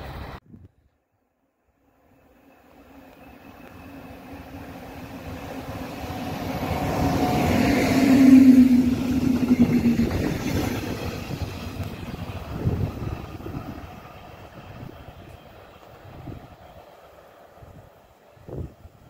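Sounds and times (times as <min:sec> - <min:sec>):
locomotive humming: 0:01.7 - 0:19.0
train wheels rumbling on rails: 0:02.2 - 0:19.0.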